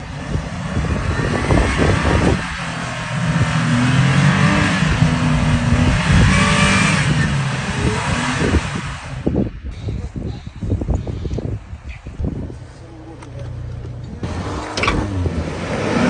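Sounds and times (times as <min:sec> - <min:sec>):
broad rushing noise: 0:00.0 - 0:13.0
off-road vehicle engine under load: 0:00.0 - 0:16.0.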